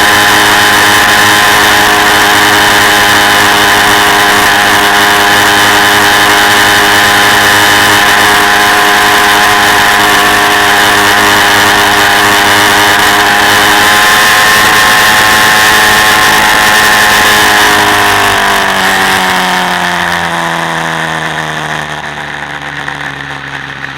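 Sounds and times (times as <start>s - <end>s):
quad bike engine running: 0.0s - 23.9s.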